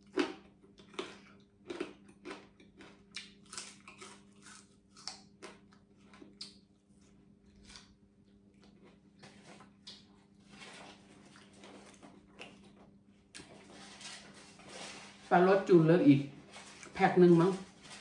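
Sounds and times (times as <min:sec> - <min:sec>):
crunchy fried fish being chewed: 0:00.0 - 0:15.0.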